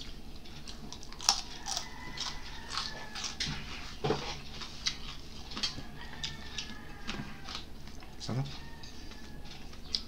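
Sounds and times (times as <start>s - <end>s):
chewing crispy fried fish: 0.0s - 10.0s.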